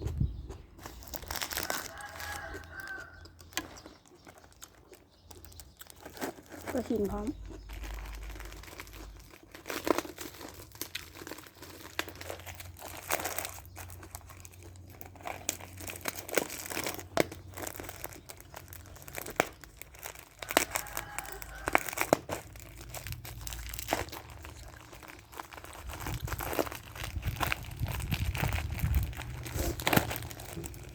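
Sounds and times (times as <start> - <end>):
chewing and crunching: 0.0 - 30.9.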